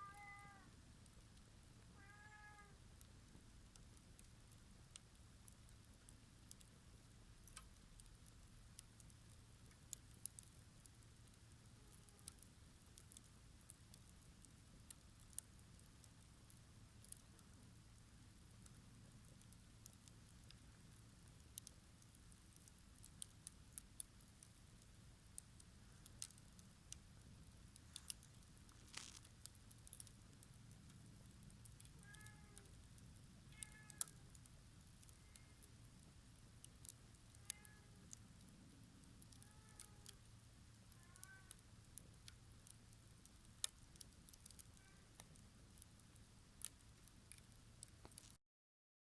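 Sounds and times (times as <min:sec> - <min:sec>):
wood fire crackling and popping: 0:00.9 - 0:02.0, 0:02.7 - 0:48.4
low steady rumble: 0:02.7 - 0:48.1.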